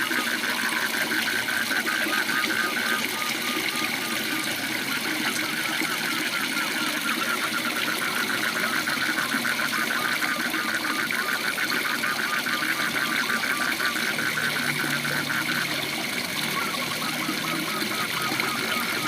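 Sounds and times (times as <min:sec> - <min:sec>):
frog trilling: 0:00.0 - 0:19.0.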